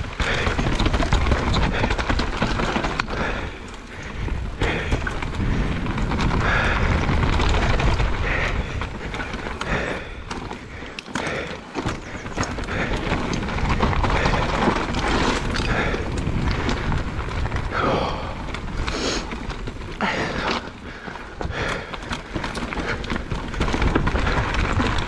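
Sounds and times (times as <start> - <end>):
bike rattling and clicking: 0.0 - 25.0
bike tyre noise: 0.0 - 25.0
wind buffeting microphone: 0.0 - 25.0.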